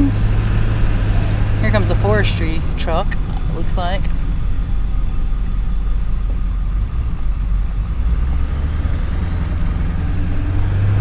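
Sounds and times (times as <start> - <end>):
truck engine rumble: 0.0 - 11.0
tyre and road noise: 0.0 - 11.0.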